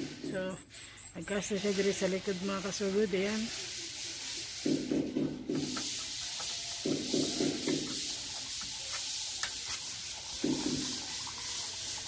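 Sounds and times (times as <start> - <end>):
sandpaper sanding: 1.5 - 12.0.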